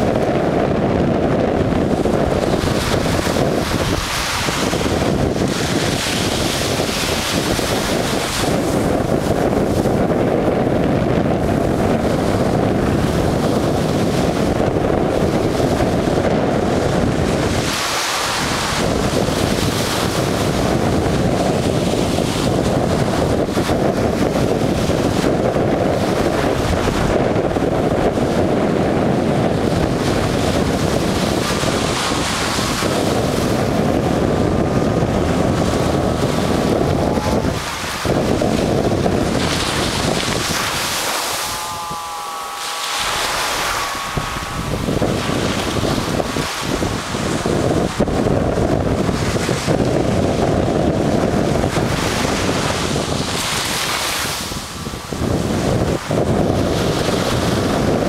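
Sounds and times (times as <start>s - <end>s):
wind buffeting microphone: 0.0s - 58.0s
small waves breaking on beach: 1.9s - 10.2s, 11.5s - 27.3s, 27.9s - 58.0s.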